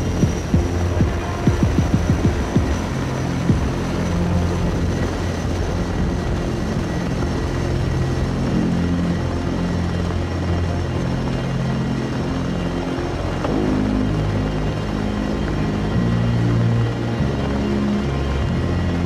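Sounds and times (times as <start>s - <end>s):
helicopter hovering: 0.0s - 19.0s.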